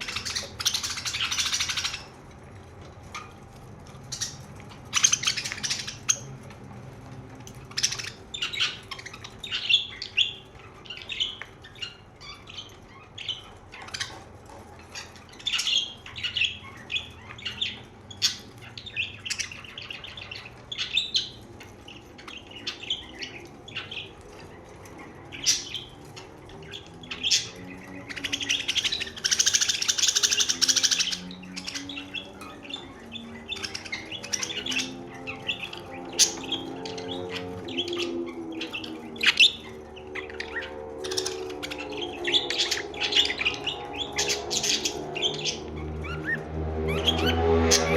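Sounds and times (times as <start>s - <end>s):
budgerigars chirping: 0.0s - 47.9s.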